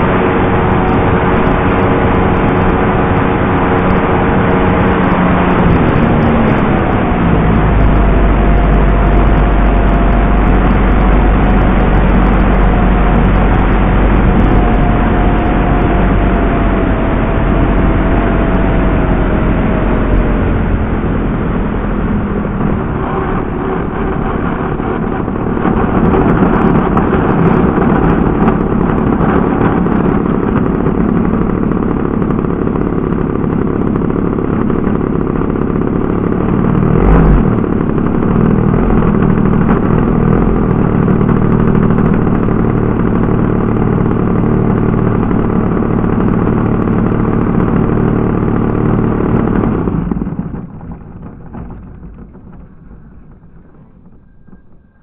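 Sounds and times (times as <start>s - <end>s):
model plane engine running: 0.0s - 51.2s.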